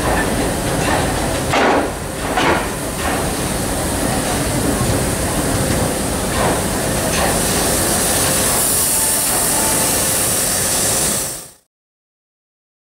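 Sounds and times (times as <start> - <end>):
train coaches rolling past: 0.0 - 11.6.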